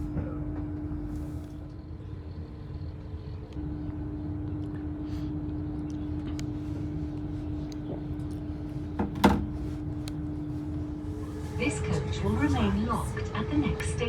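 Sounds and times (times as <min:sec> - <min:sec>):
train carriage rumble and hum: 0:00.0 - 0:14.0.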